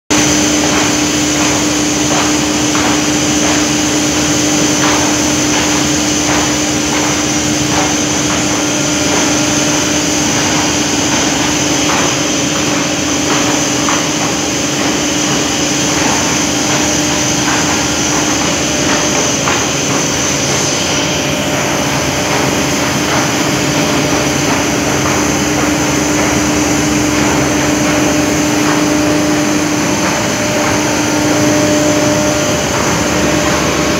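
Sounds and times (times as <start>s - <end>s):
large fans droning: 0.1s - 33.9s.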